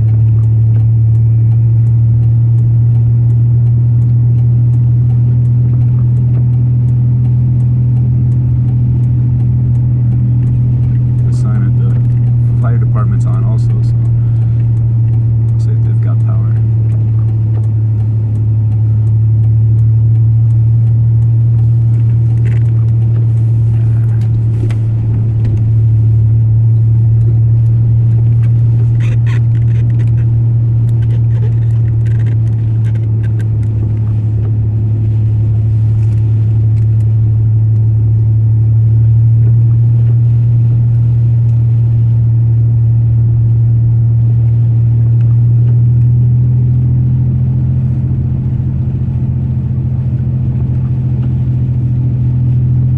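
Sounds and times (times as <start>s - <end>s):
truck engine and tyre drone: 0.0s - 52.9s.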